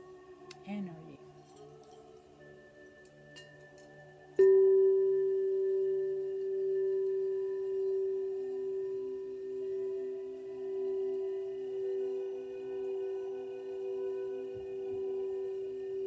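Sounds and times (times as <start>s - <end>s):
singing bowl ringing: 1.4s - 16.0s.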